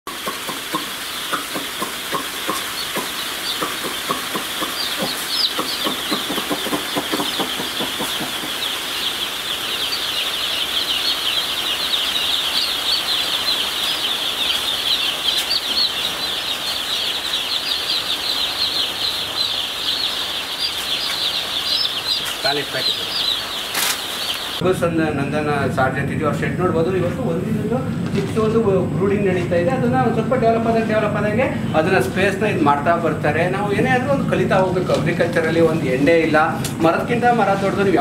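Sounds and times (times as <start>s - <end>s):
chicks peeping: 0.1s - 25.7s, 26.4s - 38.0s.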